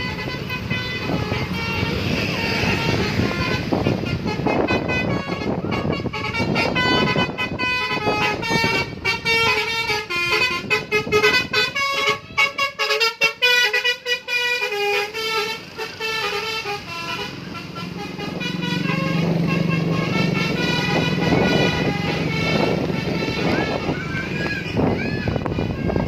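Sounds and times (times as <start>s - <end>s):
bus musical horn playing tune: 0.0s - 26.0s.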